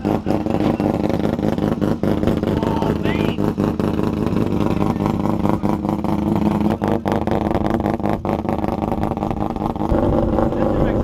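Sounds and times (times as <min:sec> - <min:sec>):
rotary engine pulsing exhaust: 0:00.0 - 0:11.0.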